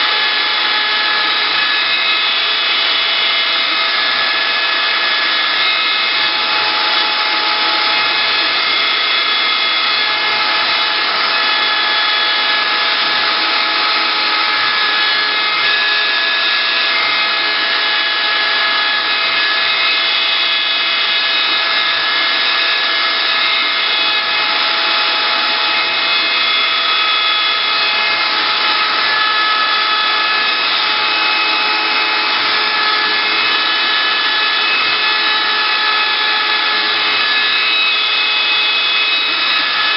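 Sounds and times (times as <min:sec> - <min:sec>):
router spindle whine: 0:00.0 - 0:39.9
wood cutting hiss: 0:00.0 - 0:39.9.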